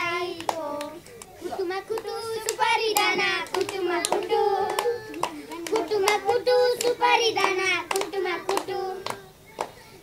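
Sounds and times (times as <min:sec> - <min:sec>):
hand claps: 0:00.0 - 0:09.9
children singing together: 0:00.0 - 0:10.0.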